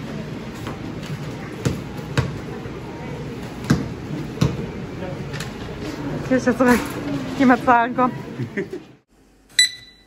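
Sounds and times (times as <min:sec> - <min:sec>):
background murmur: 0:00.0 - 0:09.1.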